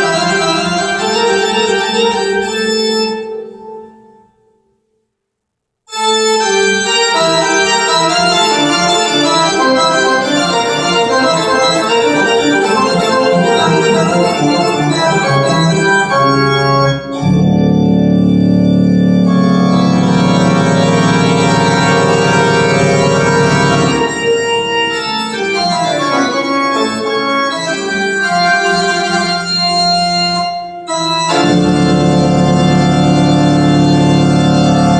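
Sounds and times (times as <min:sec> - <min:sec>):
organ music over loudspeakers: 0:00.0 - 0:04.7, 0:05.9 - 0:34.9.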